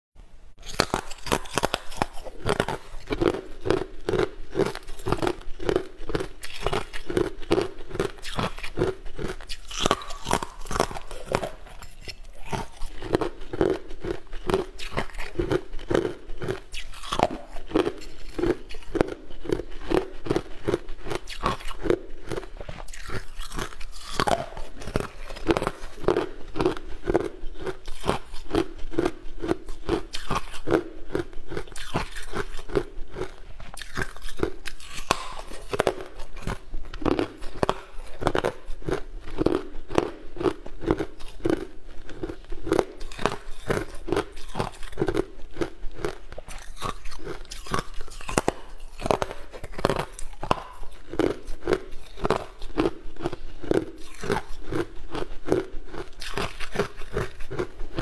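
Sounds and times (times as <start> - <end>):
person chewing with crisp crunches: 0.6 - 58.0.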